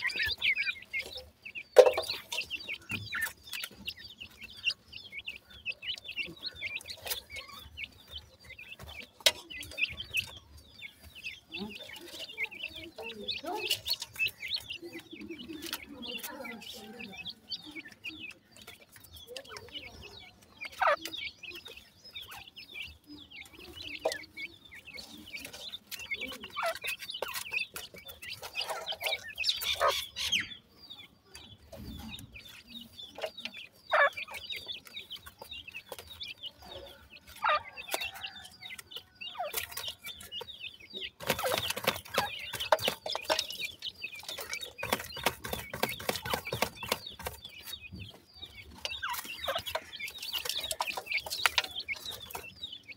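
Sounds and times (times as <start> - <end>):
birds pecking and scratching soil: 0.0 - 52.9
chicks clucking and peeping: 0.0 - 52.9.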